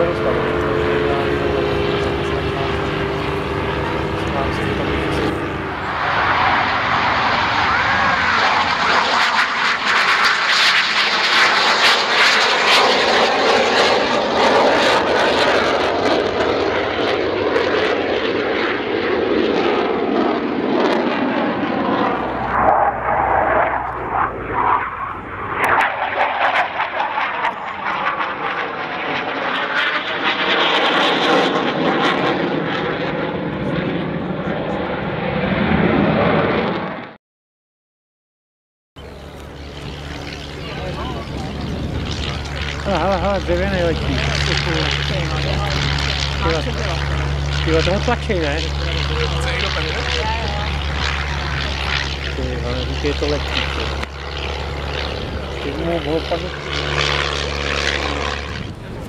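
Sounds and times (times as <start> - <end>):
jet aircraft flying past: 0.0 - 37.2, 39.0 - 59.0.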